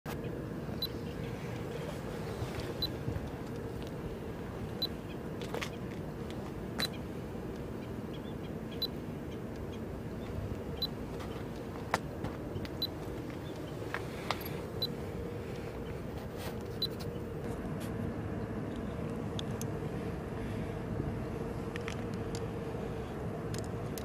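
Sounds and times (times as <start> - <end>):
faint hum: 0.1 - 24.0
low harbour rumble: 0.1 - 24.0.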